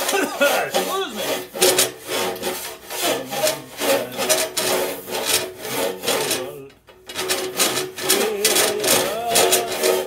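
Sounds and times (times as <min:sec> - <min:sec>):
rasp scraping inside metal pipe: 0:00.0 - 0:10.0.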